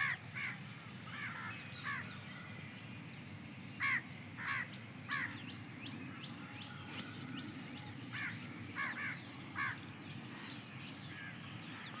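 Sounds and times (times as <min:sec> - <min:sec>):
small birds chirping: 0:01.2 - 0:12.0.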